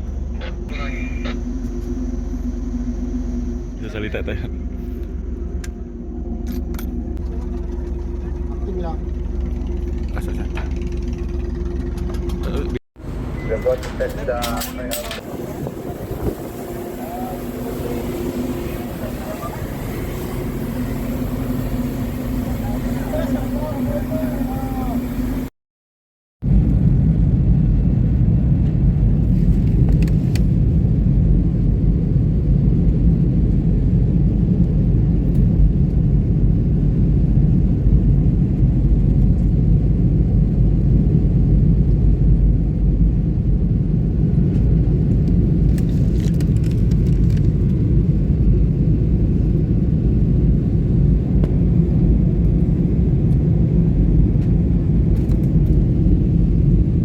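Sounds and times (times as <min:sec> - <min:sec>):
engine-room machinery rumble: 0:00.0 - 0:25.5, 0:26.4 - 0:57.0.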